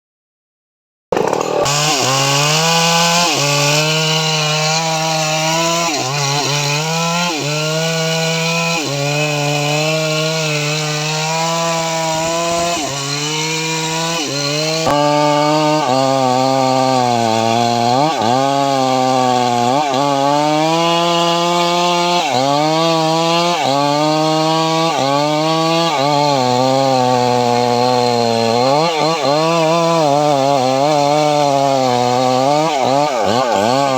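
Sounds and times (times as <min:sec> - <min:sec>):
chainsaw cutting wood: 0:01.1 - 0:33.9.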